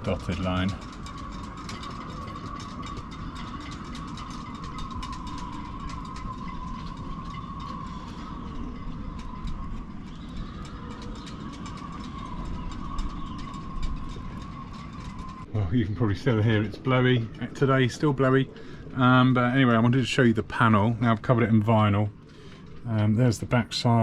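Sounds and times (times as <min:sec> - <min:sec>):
constant high hum: 0:00.0 - 0:24.0
wind low rumble: 0:00.0 - 0:24.0.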